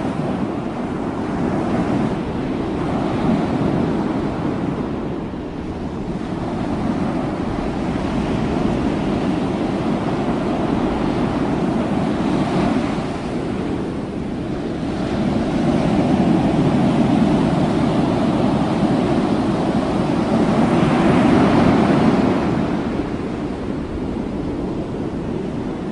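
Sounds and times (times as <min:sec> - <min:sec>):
ocean surf breaking: 0:00.0 - 0:25.9
wind noise on microphone: 0:00.0 - 0:25.9.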